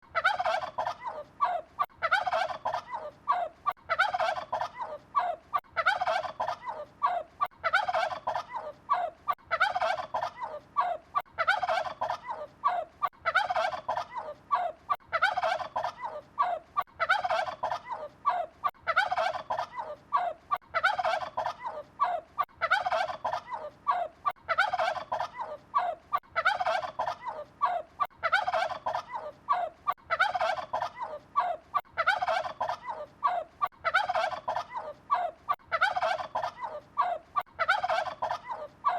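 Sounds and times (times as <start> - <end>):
turkey gobbling: 0.1 - 38.9.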